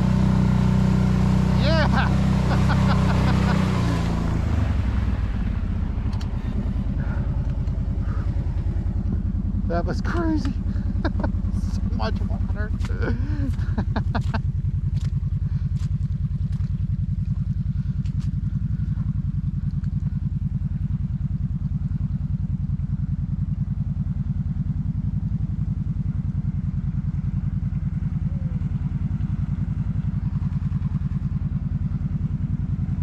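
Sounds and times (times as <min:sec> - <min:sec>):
vehicle engine running steadily: 0:00.0 - 0:33.0.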